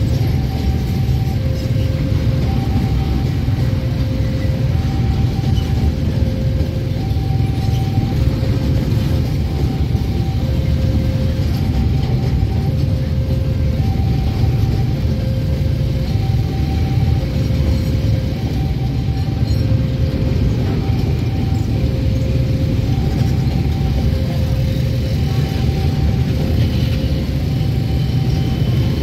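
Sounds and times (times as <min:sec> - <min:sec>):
crossing warning signal two-tone: 0:00.0 - 0:29.0
train wheels rumbling on rail: 0:00.0 - 0:29.0.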